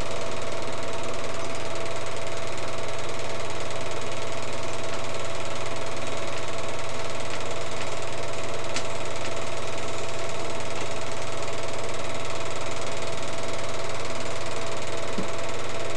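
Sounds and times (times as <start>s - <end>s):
film projector clatter: 0.0s - 15.9s
projector hum: 0.0s - 15.9s.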